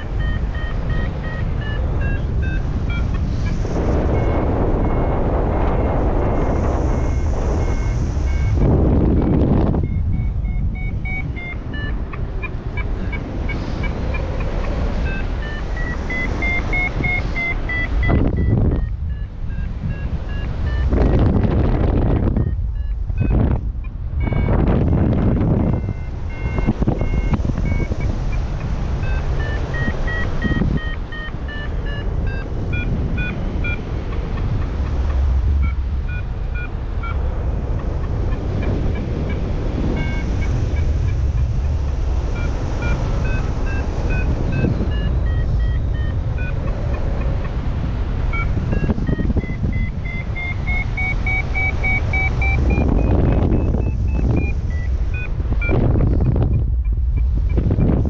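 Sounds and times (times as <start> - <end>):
variometer beeping: 0.0 - 58.0
wind rushing on microphone: 0.0 - 58.0.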